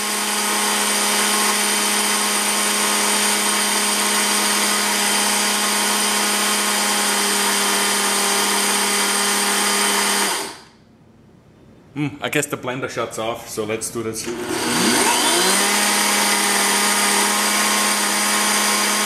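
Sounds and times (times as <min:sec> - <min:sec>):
blender grinding grain: 0:00.0 - 0:10.7, 0:14.3 - 0:19.0.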